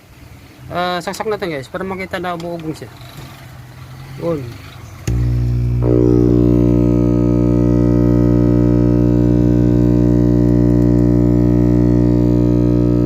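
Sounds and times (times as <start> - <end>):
guitar amplifier humming: 1.8 - 13.0.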